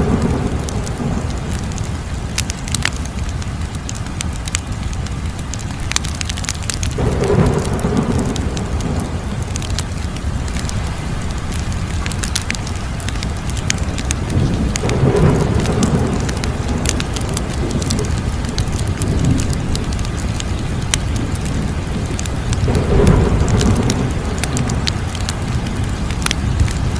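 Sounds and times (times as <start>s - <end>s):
wood fire crackling and popping: 0.0s - 26.9s.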